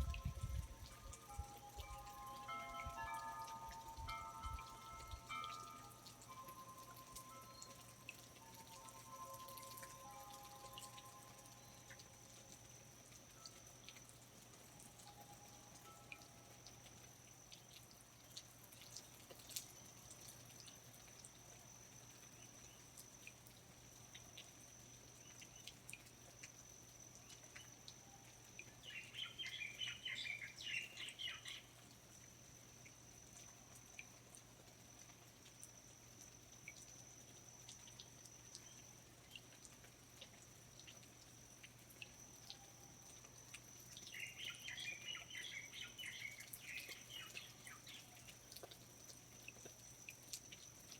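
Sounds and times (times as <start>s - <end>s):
water drips: 0.0s - 50.9s.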